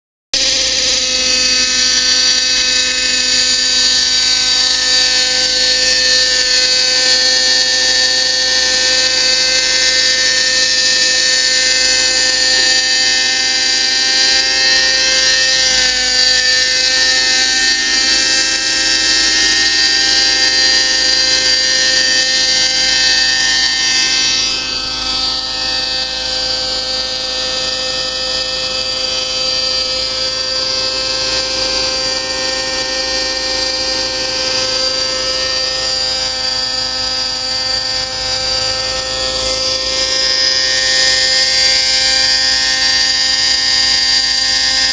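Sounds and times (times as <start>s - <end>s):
model helicopter whine: 0.4s - 44.9s.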